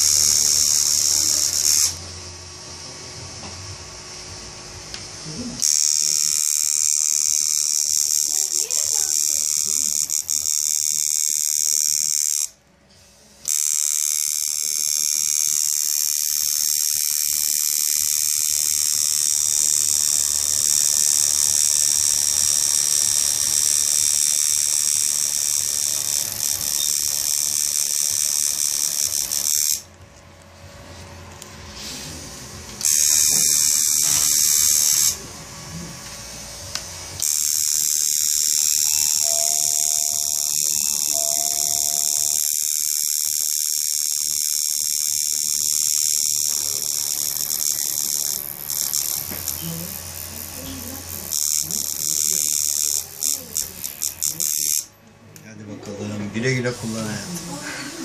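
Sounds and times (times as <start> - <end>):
tattoo machine buzzing: 0.0 - 58.0.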